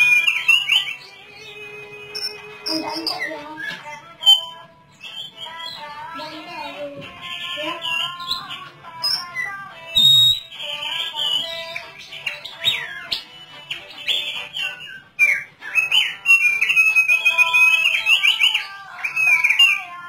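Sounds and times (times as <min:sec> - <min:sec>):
bird warbling song: 0:00.0 - 0:20.0.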